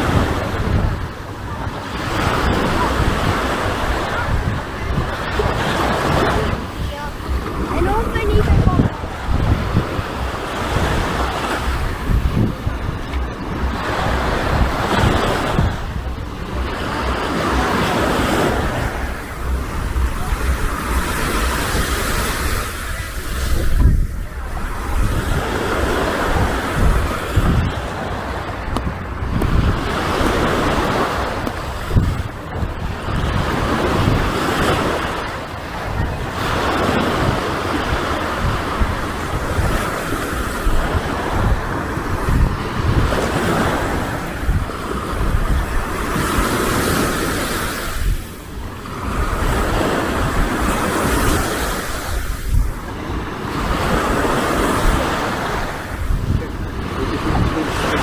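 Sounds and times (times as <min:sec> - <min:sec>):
surf washing onto beach: 0:00.0 - 0:58.0
wind buffeting microphone: 0:00.0 - 0:58.0.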